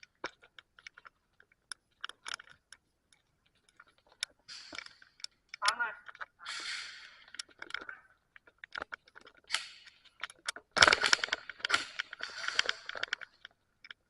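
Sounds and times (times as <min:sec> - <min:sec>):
rustling: 0:00.0 - 0:14.0
sharp clicks and snaps: 0:00.0 - 0:14.0.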